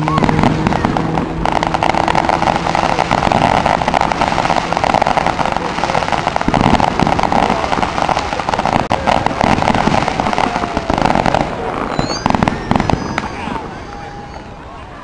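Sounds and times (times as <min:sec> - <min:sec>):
fireworks crackling: 0:00.0 - 0:14.8.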